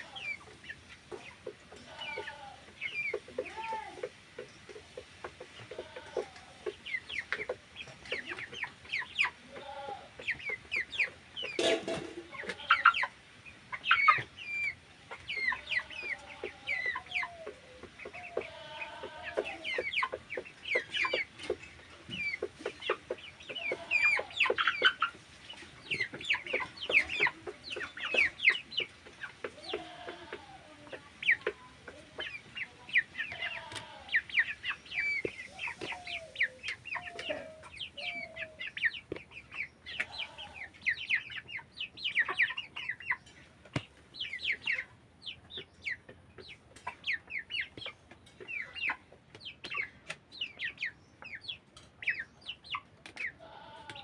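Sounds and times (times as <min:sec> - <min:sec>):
chickens clucking: 0:00.0 - 0:54.0
chicks peeping: 0:00.0 - 0:54.0.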